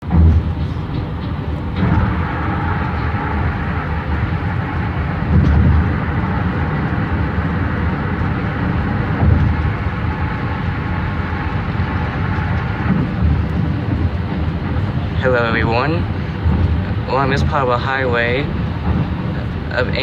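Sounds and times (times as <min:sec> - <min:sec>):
car tyre and road noise: 0:00.0 - 0:20.0
low bumps: 0:00.0 - 0:20.0.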